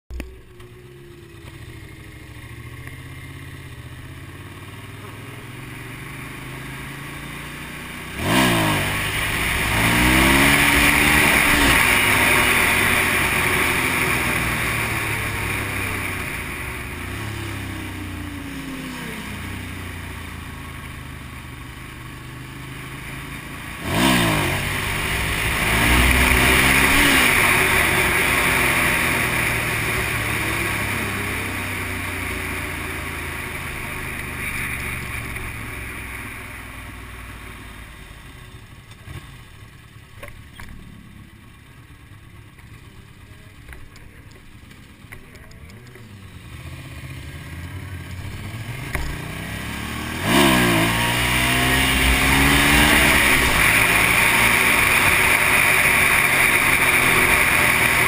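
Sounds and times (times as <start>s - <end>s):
motorcycle engine accelerating: 0.1s - 58.0s.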